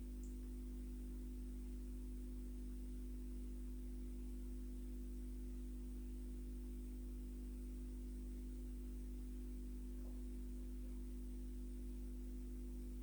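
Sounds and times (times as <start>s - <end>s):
low electrical hum with hiss: 0.0s - 13.0s.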